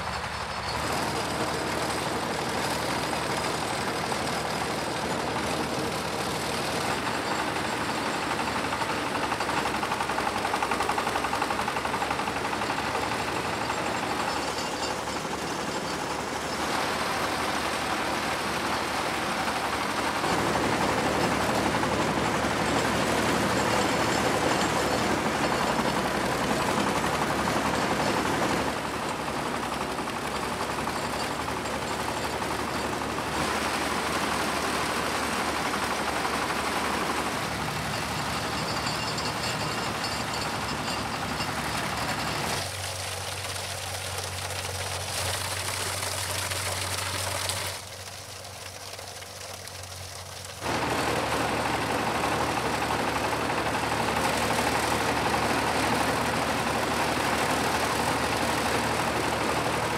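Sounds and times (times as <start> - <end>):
hay chopper running: 0.0 - 59.9.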